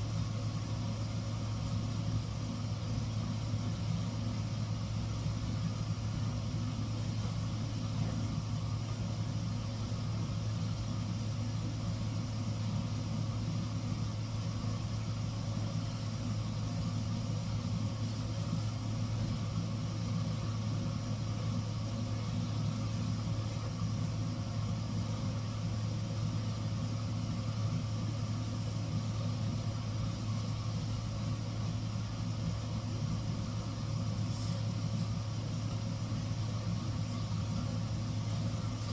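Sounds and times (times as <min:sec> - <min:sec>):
low machine hum: 0:00.0 - 0:38.9.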